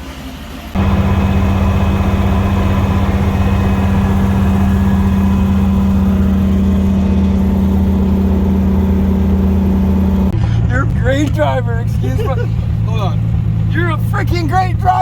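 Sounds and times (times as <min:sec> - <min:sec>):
car engine droning: 0:00.7 - 0:15.0.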